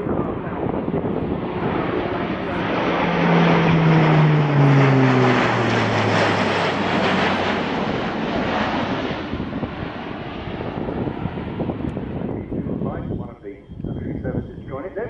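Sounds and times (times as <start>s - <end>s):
turboprop aircraft droning overhead: 0.0s - 15.0s.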